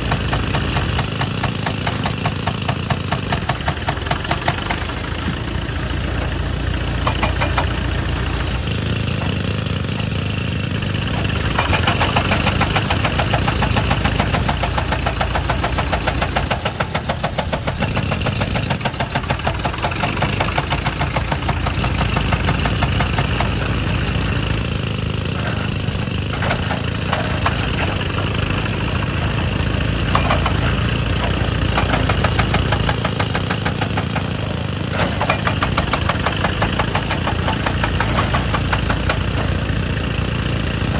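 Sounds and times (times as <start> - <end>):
excavator diesel engine: 0.0 - 40.9
hydraulic breaker hammering rock: 0.0 - 40.9.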